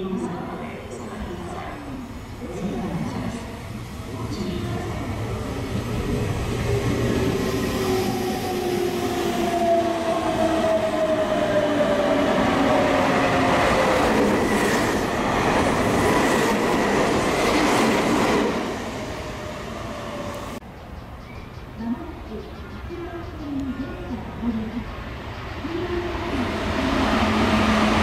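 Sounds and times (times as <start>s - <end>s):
train passing rush: 0.0s - 28.0s.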